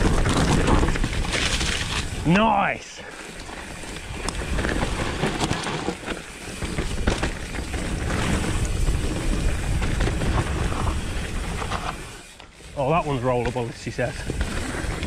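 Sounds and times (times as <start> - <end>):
bike knocking and rattling: 0.0 - 2.4, 3.1 - 15.0
tyres running over dirt trail: 0.0 - 15.0.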